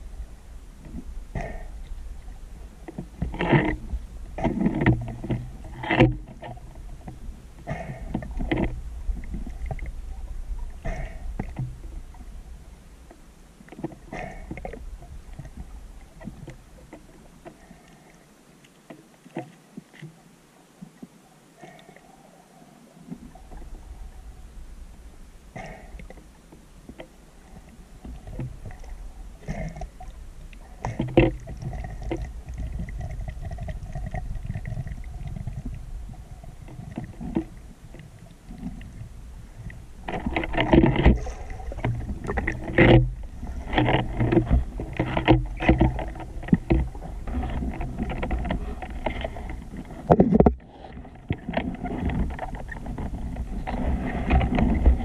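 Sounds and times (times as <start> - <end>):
low underwater rumble: 0.0 - 18.2, 22.0 - 55.0
underwater clicks and knocks: 0.8 - 10.0, 10.6 - 12.3, 13.1 - 17.7, 25.6 - 55.0.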